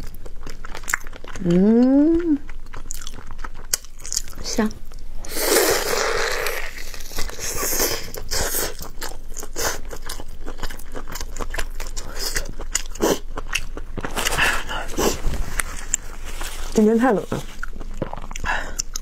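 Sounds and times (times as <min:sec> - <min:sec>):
biting and chewing food: 0:00.0 - 0:19.0.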